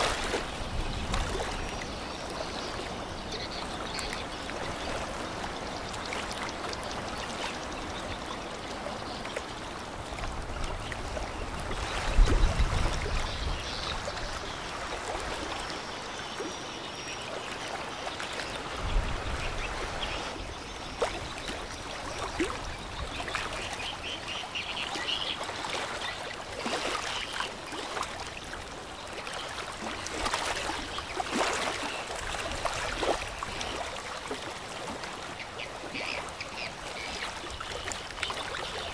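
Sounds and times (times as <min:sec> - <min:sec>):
river water lapping: 0:00.0 - 0:38.9.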